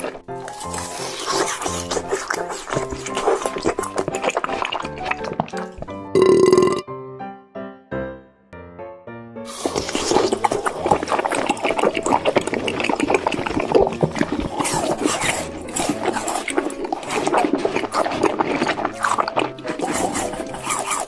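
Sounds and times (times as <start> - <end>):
ice cream being bitten and chewed: 0.0 - 6.3, 9.5 - 21.0
close-up crunching and mouth noises: 0.0 - 6.8, 9.5 - 21.0.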